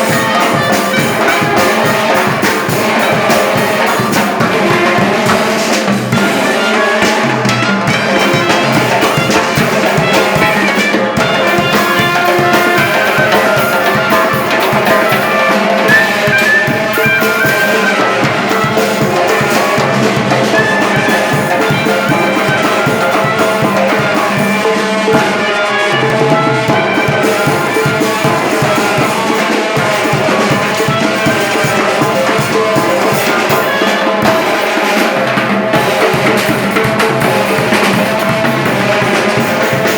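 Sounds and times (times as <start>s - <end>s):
fast drum-kit beat: 0.0s - 39.9s
loud band music: 0.0s - 39.9s.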